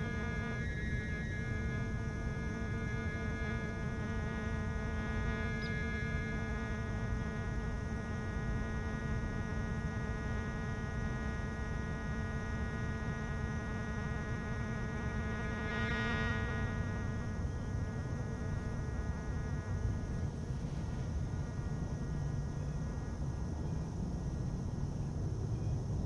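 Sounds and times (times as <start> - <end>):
buzzing wheezing instrument drone: 0.0 - 23.2.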